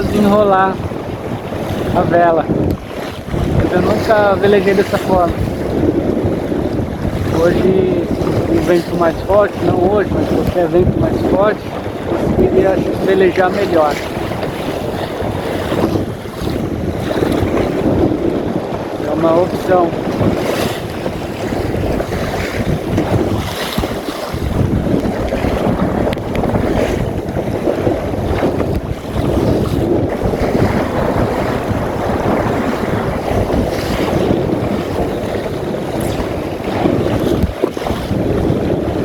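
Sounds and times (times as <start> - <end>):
water splashing against hull: 0.0 - 39.0
wind buffeting microphone: 0.0 - 39.0.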